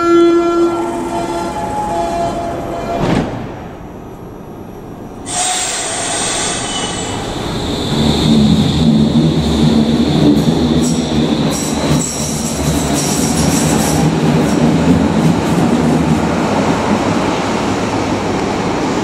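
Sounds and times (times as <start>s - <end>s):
train high whine: 0.0s - 3.1s, 3.7s - 19.0s.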